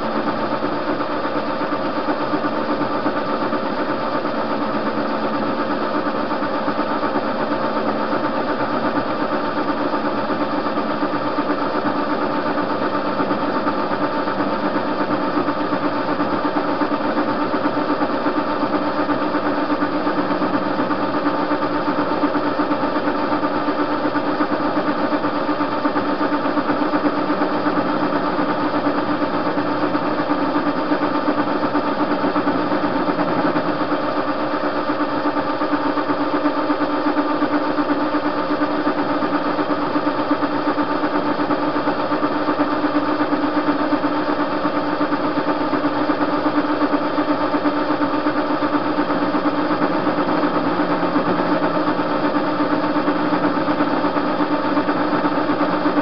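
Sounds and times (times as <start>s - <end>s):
metal lathe motor and gear hum: 0.0s - 56.0s.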